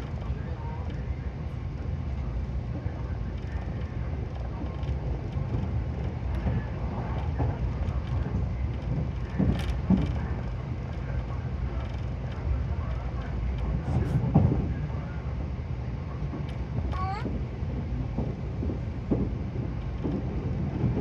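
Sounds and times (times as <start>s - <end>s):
train cabin low rumble: 0.0s - 21.0s.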